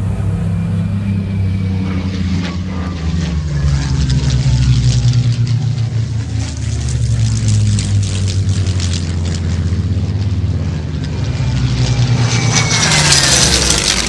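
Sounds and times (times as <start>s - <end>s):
propeller aircraft engine flypast: 0.0s - 14.0s.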